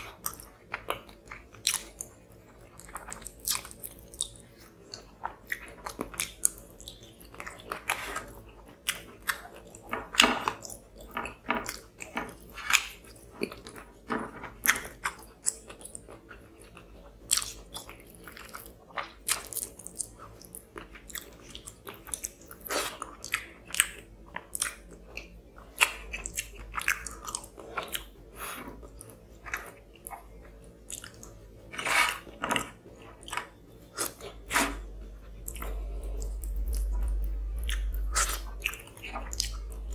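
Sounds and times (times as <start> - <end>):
person chewing with wet mouth sounds: 0.0 - 39.9.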